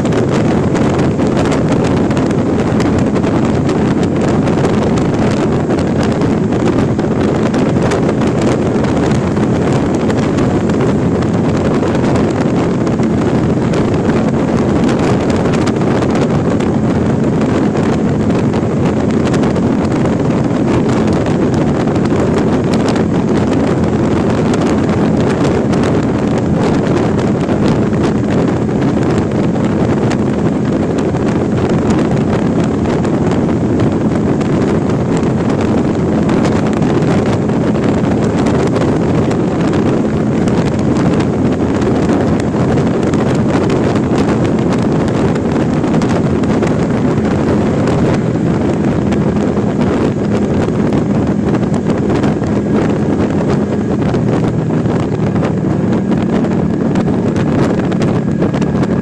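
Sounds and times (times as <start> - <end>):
motorcycle engine hum: 0.0 - 59.0
wind noise on microphone: 0.0 - 59.0.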